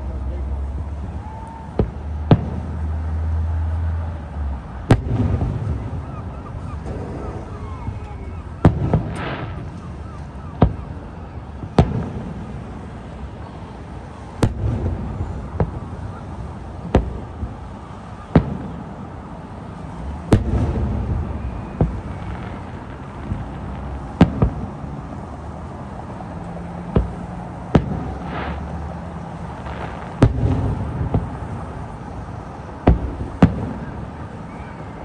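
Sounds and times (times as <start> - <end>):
fireworks bursting: 0.0 - 3.4, 4.6 - 35.0
low rolling rumble: 0.0 - 35.0.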